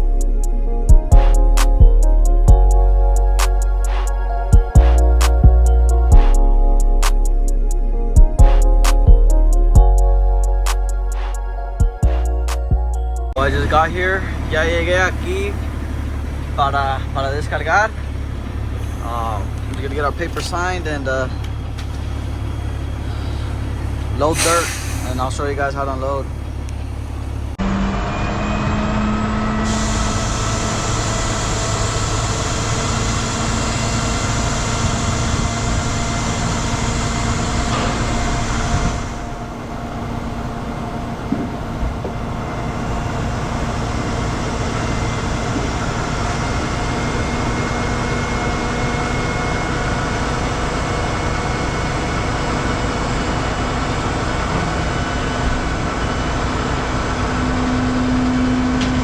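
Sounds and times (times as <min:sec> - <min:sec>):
constant whine: 0:00.0 - 0:59.0
diesel truck engine running: 0:00.0 - 0:59.0.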